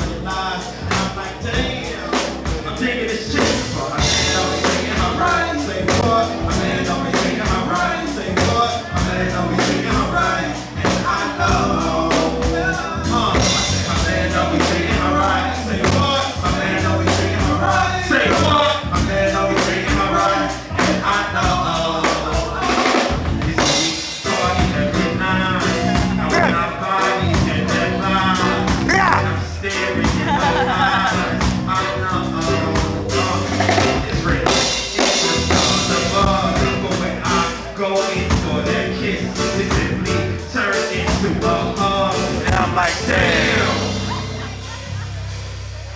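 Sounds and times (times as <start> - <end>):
rapping through speakers: 0.0 - 22.8, 23.6 - 45.0
drum kit beat: 0.0 - 45.9.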